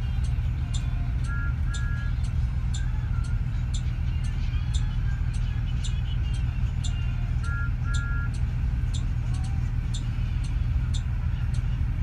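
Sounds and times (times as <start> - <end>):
bus rumbling from inside: 0.0 - 12.0.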